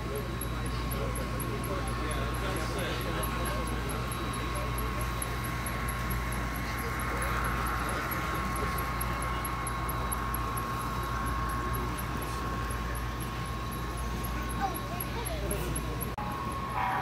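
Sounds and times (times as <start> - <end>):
constant hum: 0.0 - 17.0
murmur of crowd voices: 0.0 - 17.0.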